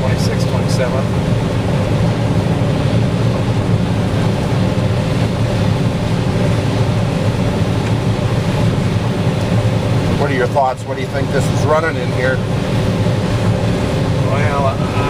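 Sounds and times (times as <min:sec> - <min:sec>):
combine harvester low drone: 0:00.0 - 0:15.0.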